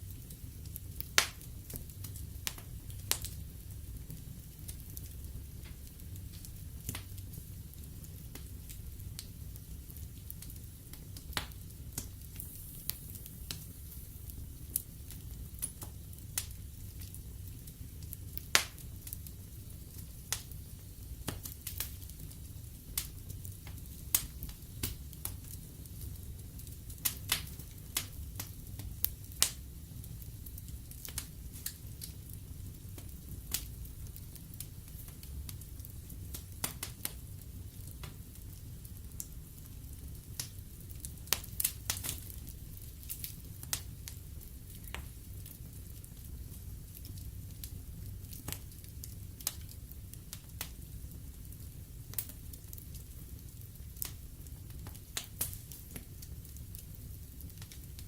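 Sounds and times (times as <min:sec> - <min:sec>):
fire flames rumbling: 0:00.0 - 0:58.0
logs crackling and popping: 0:00.0 - 0:58.0.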